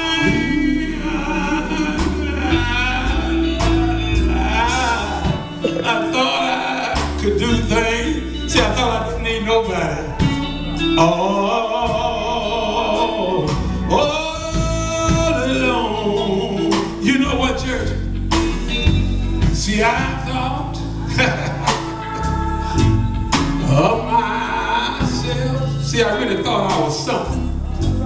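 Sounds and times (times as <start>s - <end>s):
man singing into microphone: 0.0s - 18.0s, 19.4s - 28.0s
bass guitar: 0.0s - 28.0s
drum kit: 0.0s - 28.0s.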